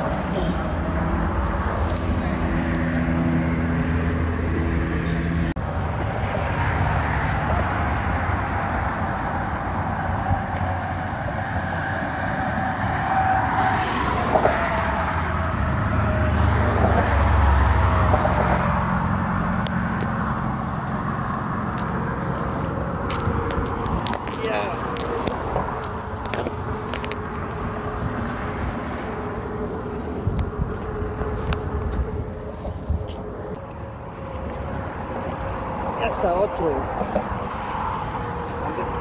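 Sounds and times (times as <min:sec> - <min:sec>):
road traffic on a bridge: 0:00.0 - 0:39.0
vehicle passing rumble: 0:00.0 - 0:39.0.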